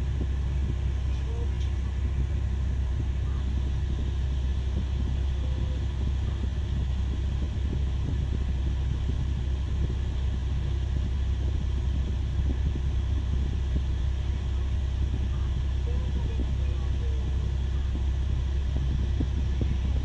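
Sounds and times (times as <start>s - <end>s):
excavator diesel engine rumble: 0.0s - 20.0s.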